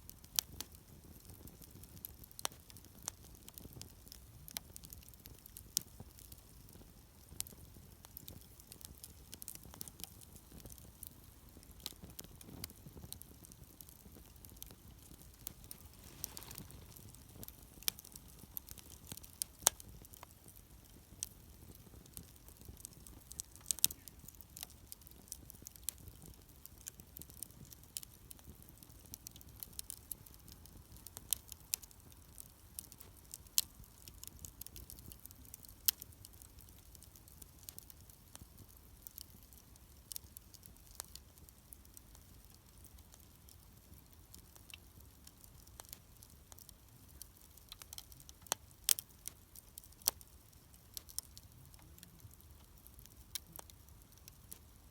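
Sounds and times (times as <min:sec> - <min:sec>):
campfire crackling: 0:00.0 - 0:54.9.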